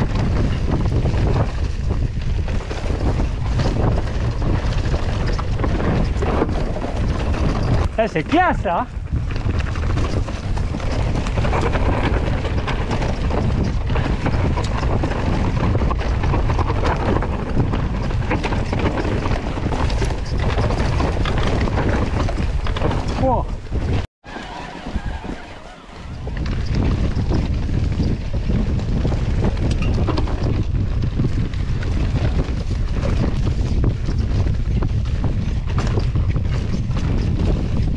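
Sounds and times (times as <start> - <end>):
bike rattling: 0.0 - 37.9
bike tyres rolling on dirt: 0.0 - 37.9
wind rumble on microphone: 0.0 - 37.9.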